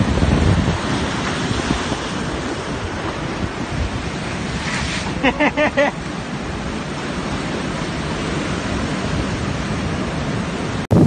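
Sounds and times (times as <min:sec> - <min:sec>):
surf breaking on rocks: 0:00.0 - 0:11.0.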